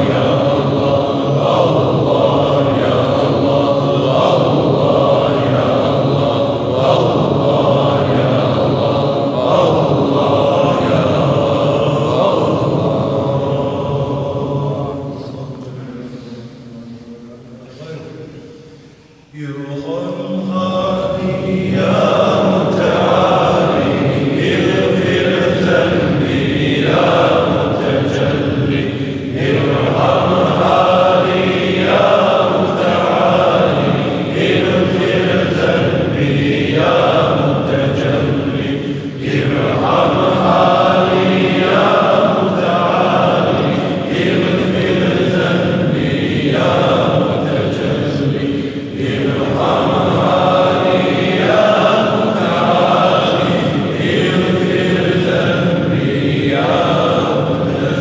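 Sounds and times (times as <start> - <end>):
men chanting in unison: 0.0 - 16.8, 19.3 - 58.0.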